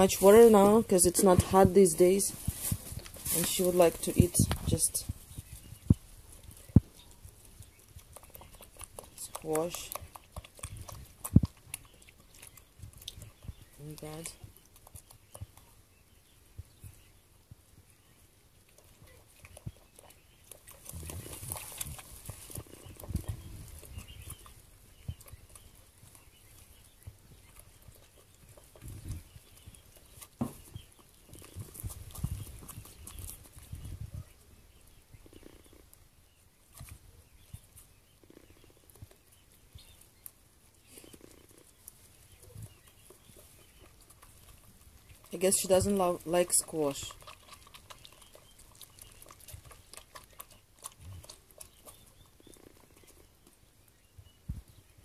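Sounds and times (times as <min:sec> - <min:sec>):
goat chewing and crunching: 0:00.0 - 0:55.0.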